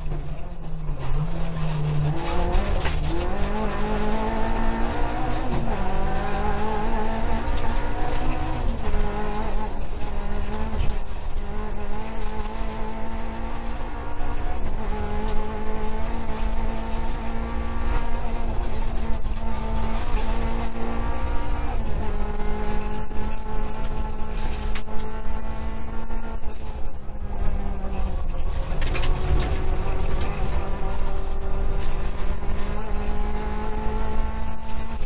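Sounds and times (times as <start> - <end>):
rally car engine revving: 0.0 - 35.0
road and tyre noise: 0.0 - 35.0.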